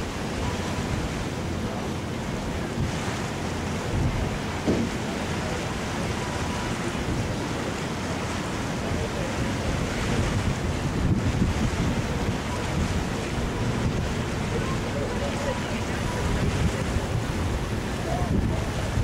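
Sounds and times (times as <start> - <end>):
rushing lake water: 0.0 - 19.0
wind buffeting microphone: 0.0 - 19.0.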